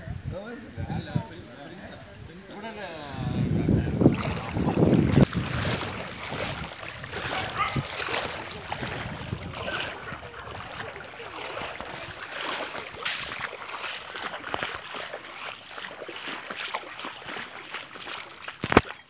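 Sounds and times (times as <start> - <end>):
rippling floodwater: 0.0 - 19.0
wind: 0.0 - 19.0.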